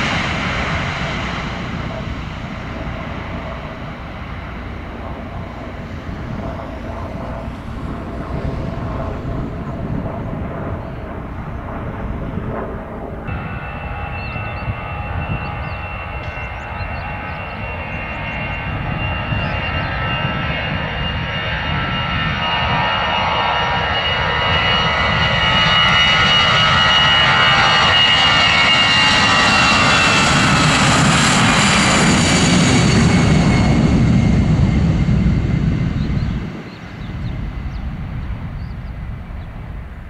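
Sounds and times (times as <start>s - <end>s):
airliner jet engines passing: 0.0s - 40.0s
deep jet rumble: 0.0s - 40.0s.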